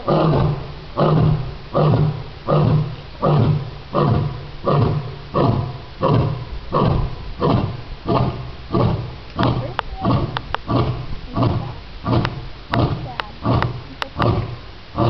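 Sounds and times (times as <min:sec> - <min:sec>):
lion grunting: 0:00.0 - 0:15.0.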